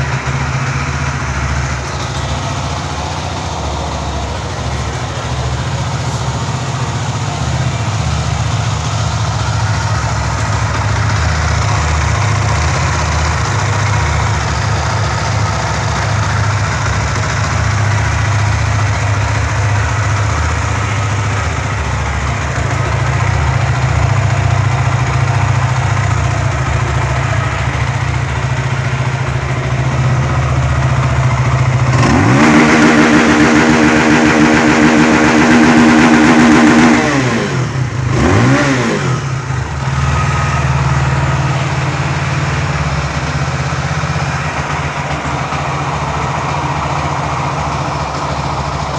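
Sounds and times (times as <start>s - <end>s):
motorcycle engine idling and revving: 0.0s - 48.9s.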